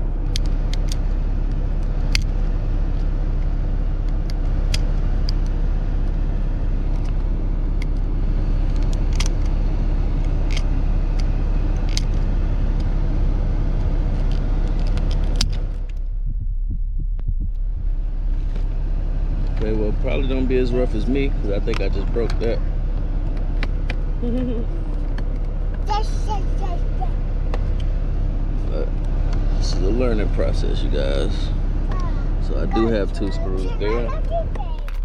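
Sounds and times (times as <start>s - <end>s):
low rumble in car cabin: 0.0s - 35.0s.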